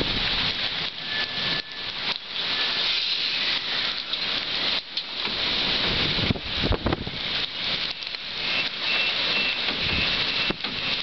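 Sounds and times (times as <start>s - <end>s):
heavy wind-driven rain: 0.0s - 11.0s.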